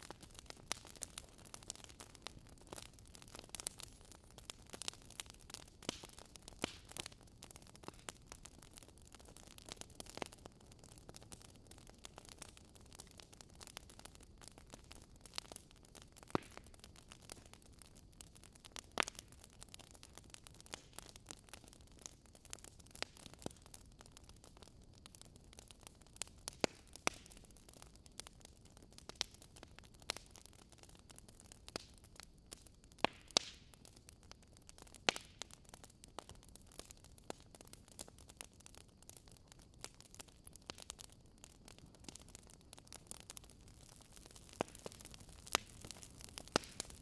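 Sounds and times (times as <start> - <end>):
faint steady hiss: 0.0 - 47.0
fire crackling and popping: 0.0 - 47.0.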